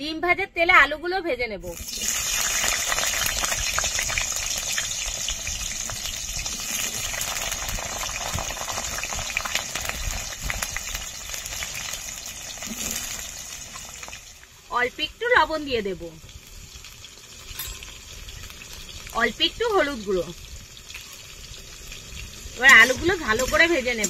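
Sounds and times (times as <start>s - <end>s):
potatoes sizzling in hot oil: 1.7s - 24.0s.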